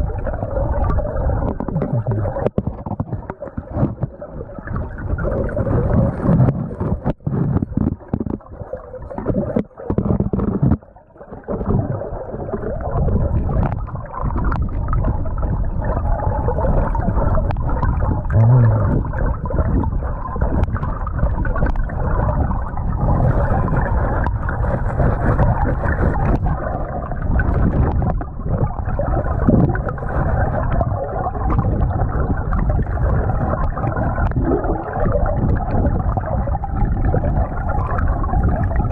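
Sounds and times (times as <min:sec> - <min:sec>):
underwater creek current gurgling: 0:00.0 - 0:38.9.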